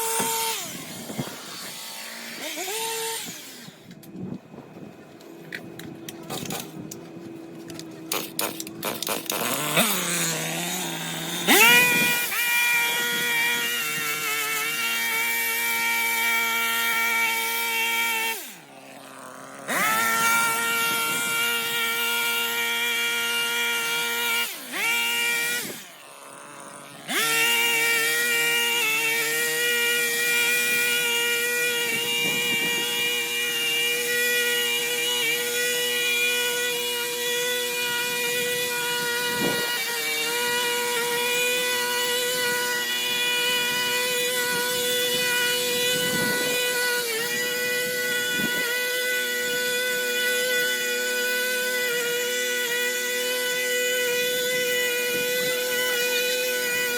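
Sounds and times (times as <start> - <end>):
electric hedge trimmer whining: 0.0 - 56.9
garden power tool motor: 0.0 - 56.9.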